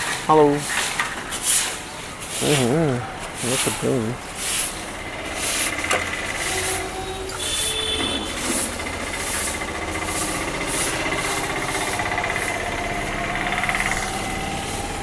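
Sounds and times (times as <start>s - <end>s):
motor engine running: 2.3s - 15.0s.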